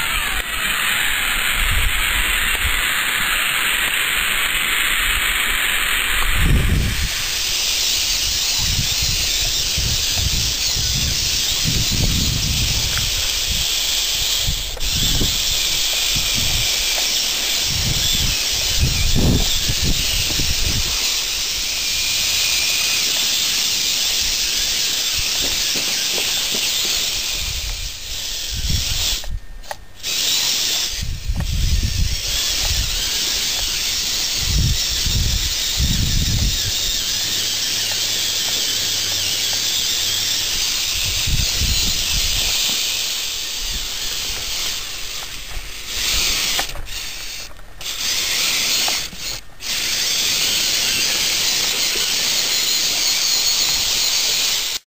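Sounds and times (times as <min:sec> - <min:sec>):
toy truck motors whirring: 0:00.0 - 0:54.8.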